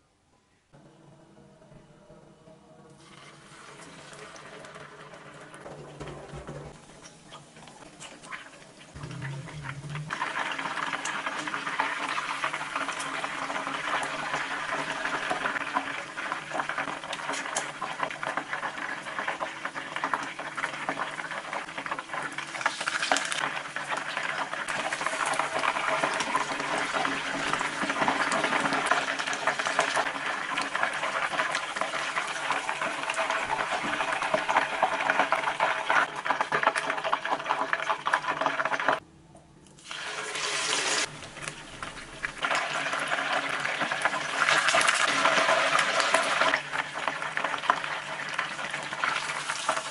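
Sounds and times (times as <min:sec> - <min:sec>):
chicken sizzling in hot oil: 0:08.2 - 0:39.0, 0:39.8 - 0:49.9.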